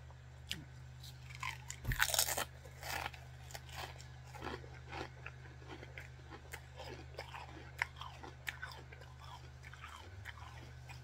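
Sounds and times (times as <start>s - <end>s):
potato chip crunching: 0.5s - 11.0s.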